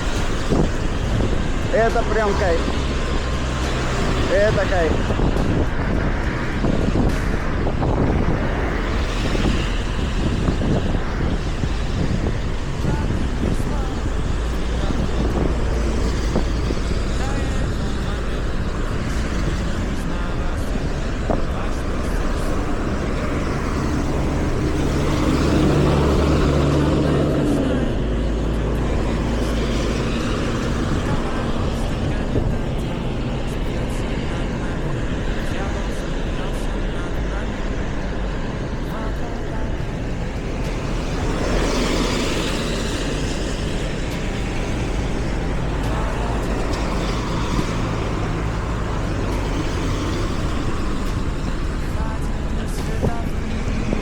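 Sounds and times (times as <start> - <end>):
vehicle engine passing: 0.0 - 54.0
wind and road noise: 0.0 - 54.0.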